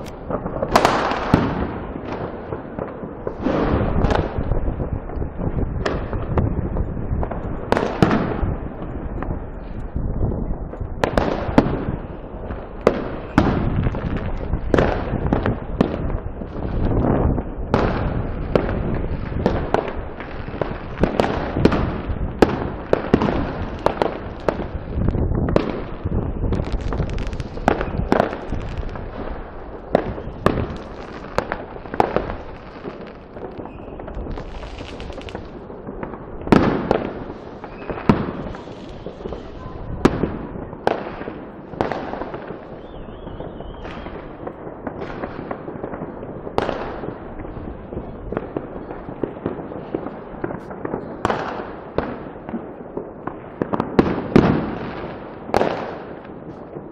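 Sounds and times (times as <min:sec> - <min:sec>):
distant fireworks bangs: 0:00.0 - 0:56.9
fireworks and firecrackers banging: 0:00.0 - 0:56.9.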